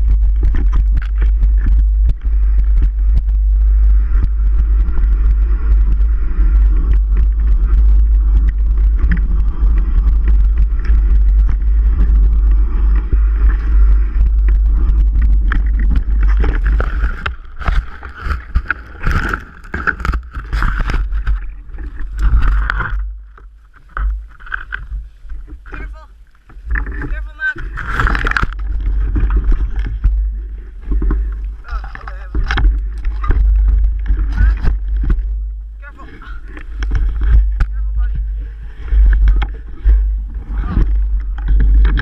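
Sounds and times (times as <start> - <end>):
bike rattling over trail: 0.0 - 42.0
wind rumble on microphone: 0.0 - 42.0.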